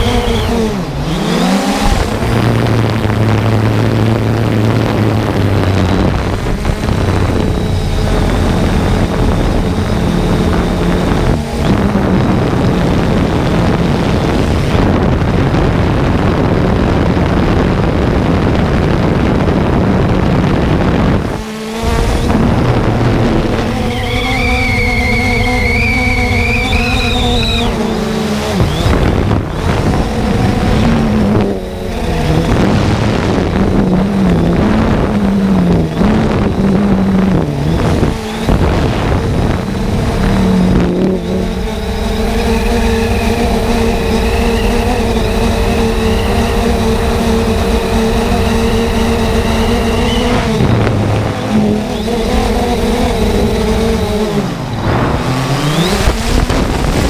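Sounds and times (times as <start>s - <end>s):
drone motors whining and buzzing: 0.0s - 57.0s.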